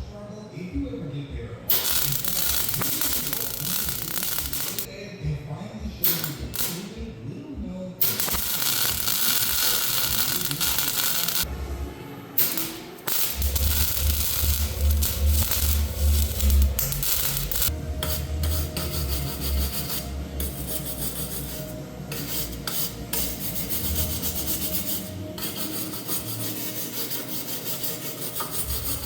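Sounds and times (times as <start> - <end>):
welding arc crackling: 1.7 - 4.9, 6.0 - 7.0, 8.0 - 11.5, 12.4 - 29.0.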